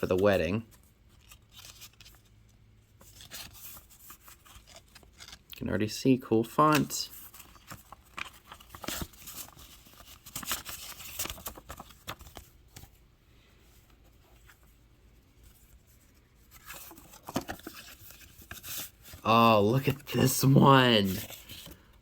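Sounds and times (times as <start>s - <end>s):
paper rustling and crinkling: 0.0s - 5.6s, 6.6s - 13.0s, 13.7s - 22.0s.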